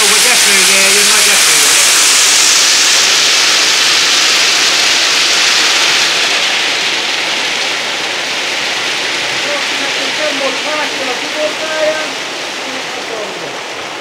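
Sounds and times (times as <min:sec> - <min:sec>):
hail and rain pelting down: 0:00.0 - 0:14.0.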